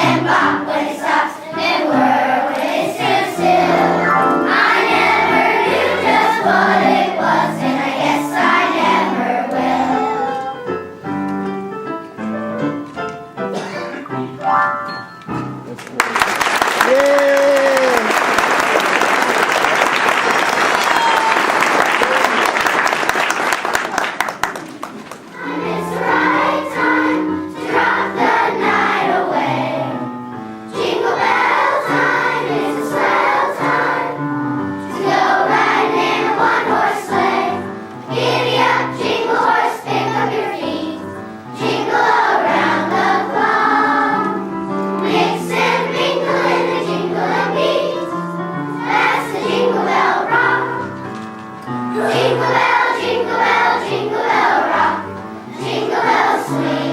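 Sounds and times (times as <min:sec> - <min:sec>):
children's choir singing: 0:00.0 - 0:10.8, 0:18.4 - 0:56.9.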